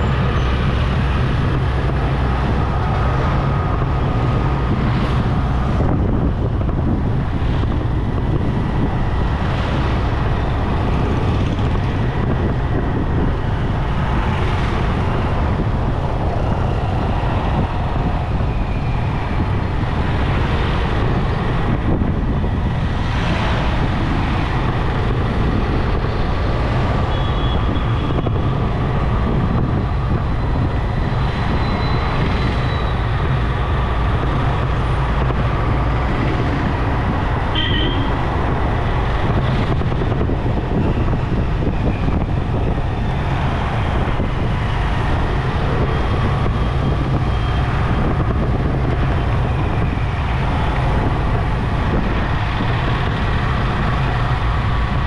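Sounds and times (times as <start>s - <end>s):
motorcycle road noise: 0.0s - 55.0s.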